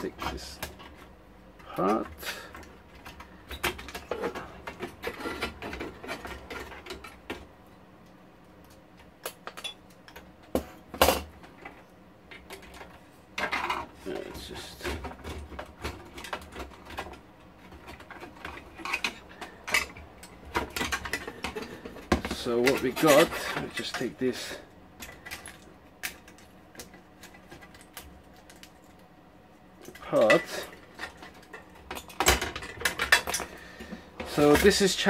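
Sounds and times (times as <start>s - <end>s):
circuit boards clicking and clattering: 0.0s - 29.1s, 29.8s - 35.0s.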